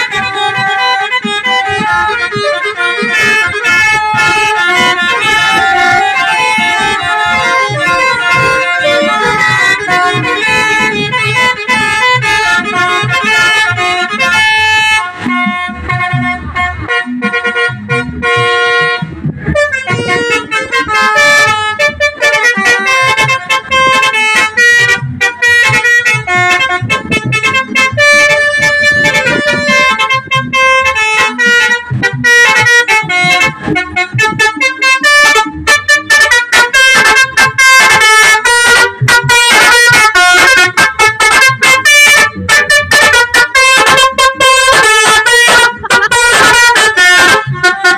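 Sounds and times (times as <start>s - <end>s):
musical bus horn tune: 0.0s - 47.9s
staccato horn toots: 0.0s - 47.9s.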